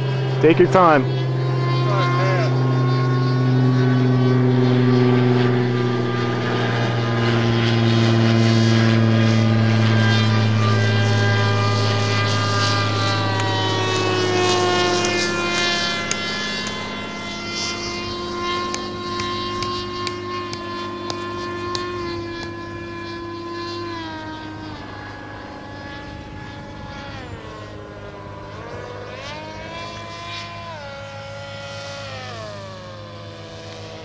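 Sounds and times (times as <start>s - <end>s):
model plane engine droning: 0.0s - 34.0s.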